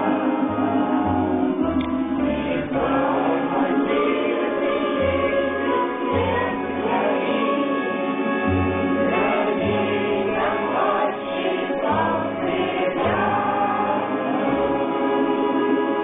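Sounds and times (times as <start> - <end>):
choir singing in chorus: 0.0 - 16.0
low sustained accompaniment: 0.0 - 16.0.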